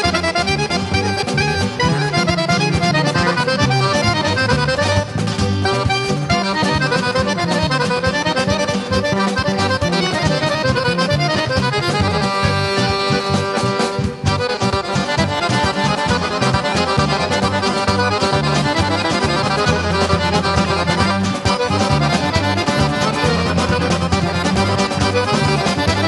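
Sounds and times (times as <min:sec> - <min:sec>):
acoustic guitar: 0:00.0 - 0:26.0
bass guitar: 0:00.0 - 0:26.0
drums: 0:00.0 - 0:26.0
piano accordions playing folk melody: 0:00.0 - 0:26.0.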